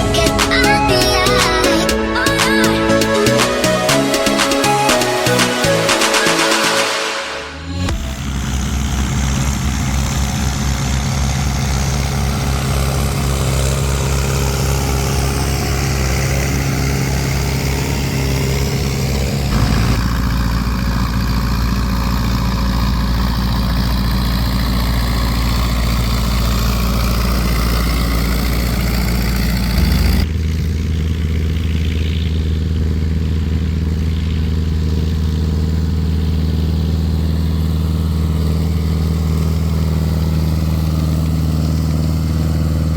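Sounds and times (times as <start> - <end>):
old tractor engines running: 0.0 - 7.2, 7.8 - 42.9.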